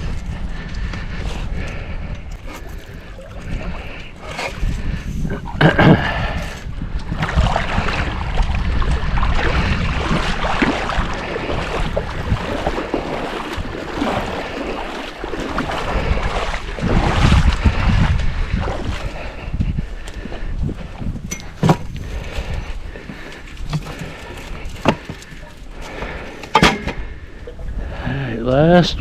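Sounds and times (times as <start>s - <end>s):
water sloshing and splashing: 0.0s - 28.0s
wind buffeting microphone: 0.0s - 29.0s.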